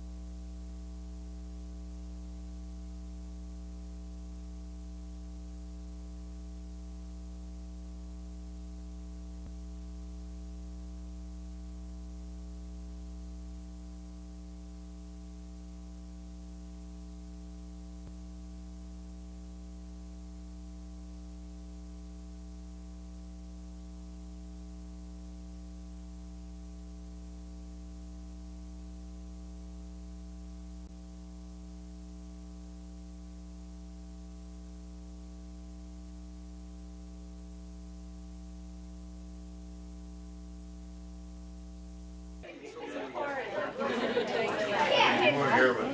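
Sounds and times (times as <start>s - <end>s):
buzzy mains hum: 0.0s - 45.9s.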